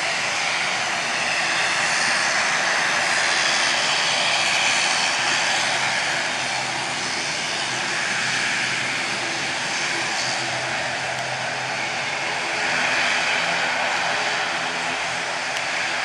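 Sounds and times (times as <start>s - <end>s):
low propeller drone: 0.0s - 16.0s
turboprop engine hiss and whine: 0.0s - 16.0s.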